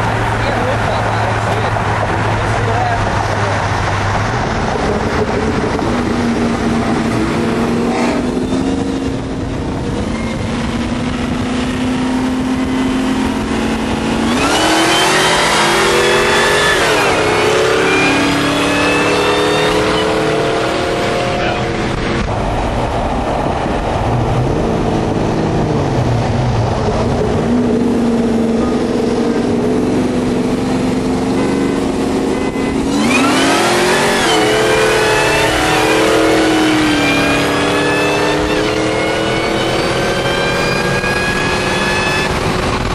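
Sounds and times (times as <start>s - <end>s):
car engine accelerating: 0.0s - 42.9s
high whine: 0.0s - 42.9s.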